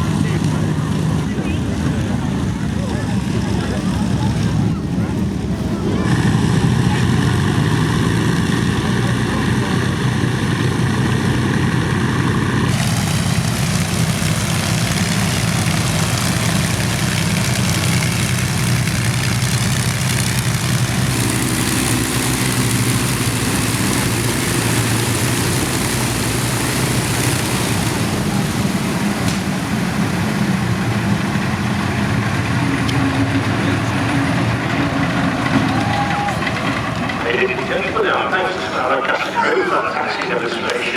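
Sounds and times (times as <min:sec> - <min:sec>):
aircraft engines running at low power: 0:00.0 - 0:40.9.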